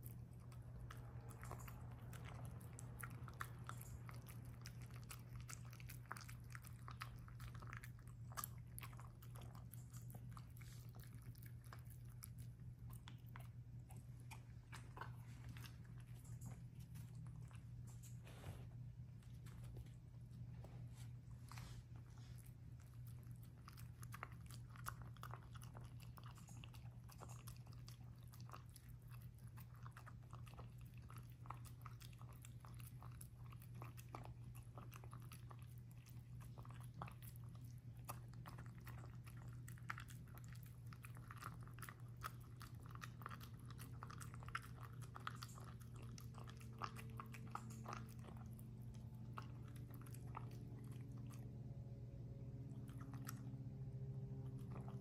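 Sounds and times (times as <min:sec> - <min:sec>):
dog chewing from metal bowl: 0:00.0 - 0:18.0, 0:22.8 - 0:51.5
low steady hum: 0:00.0 - 0:55.0.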